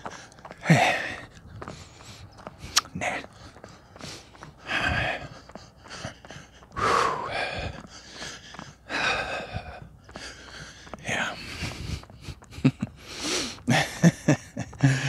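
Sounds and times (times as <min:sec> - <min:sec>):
man breathing hard: 0:00.0 - 0:15.0.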